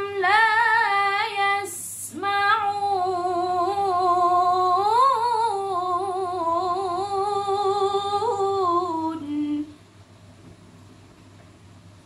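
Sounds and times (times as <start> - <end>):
woman reciting melodically: 0.0 - 9.8.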